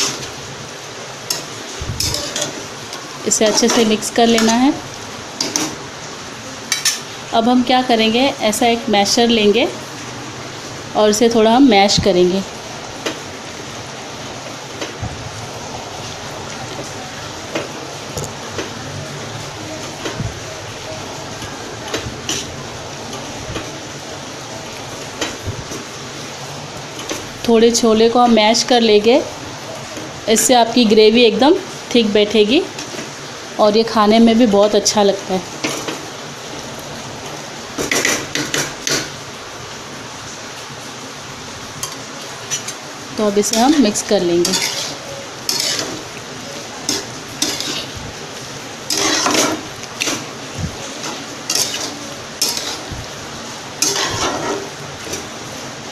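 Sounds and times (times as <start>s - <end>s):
gravy sizzling: 0.0s - 55.9s.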